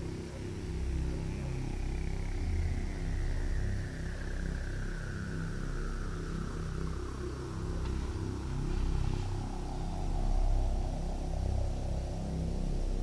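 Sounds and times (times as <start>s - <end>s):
faint whine gliding down: 0.0s - 13.0s
steady low rumble: 0.0s - 13.0s.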